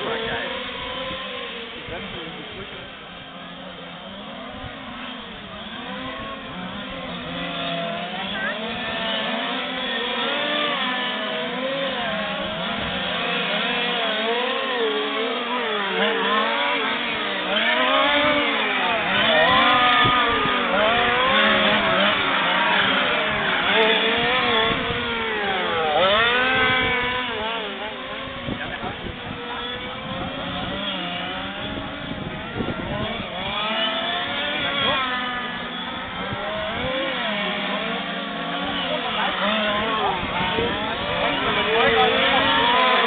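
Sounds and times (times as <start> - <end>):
model truck engines revving: 0.0 - 43.0.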